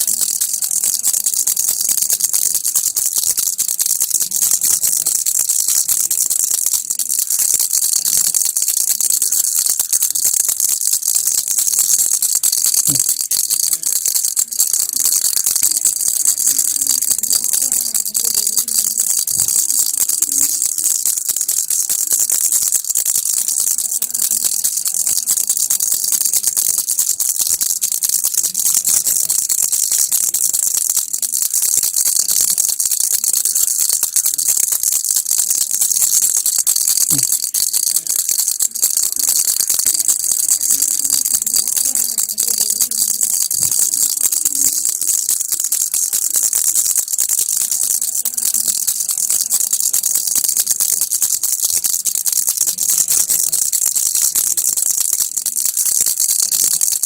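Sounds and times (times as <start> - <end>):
baby's rattle toy shaken: 0.0 - 57.0.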